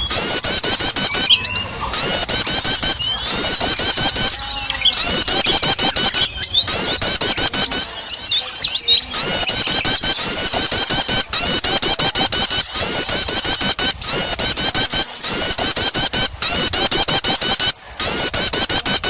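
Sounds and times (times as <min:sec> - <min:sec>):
songbirds chirping: 0:00.0 - 0:16.7.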